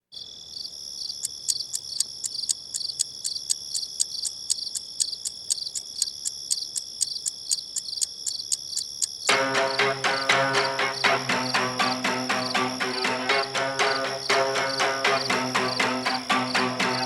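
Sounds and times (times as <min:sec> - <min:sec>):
insects chirping: 0:00.1 - 0:17.0.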